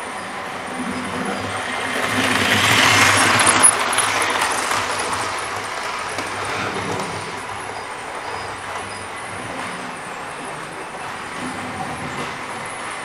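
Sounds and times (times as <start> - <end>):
model train wheels rumbling on track: 0.0 - 13.0.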